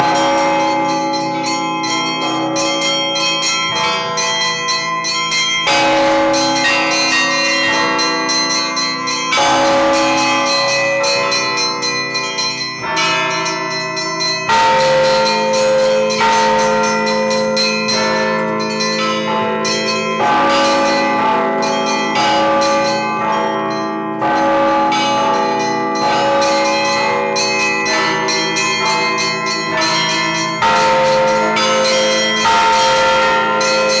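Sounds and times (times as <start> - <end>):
church bells ringing: 0.0 - 34.0.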